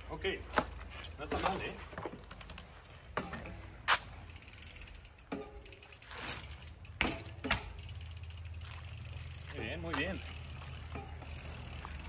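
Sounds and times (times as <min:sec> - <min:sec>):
bike knocks: 0:00.5 - 0:04.2, 0:05.2 - 0:12.0
bike hub ratcheting: 0:00.8 - 0:12.0.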